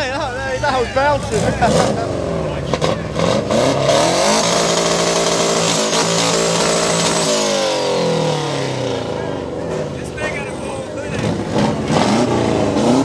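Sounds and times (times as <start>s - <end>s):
car engine revving: 0.9s - 13.0s.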